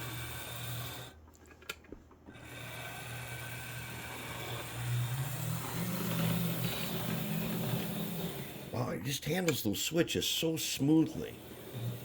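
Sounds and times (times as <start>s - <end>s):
model train motor hum and gear whine: 0.0s - 1.2s, 2.3s - 9.6s, 10.5s - 12.0s.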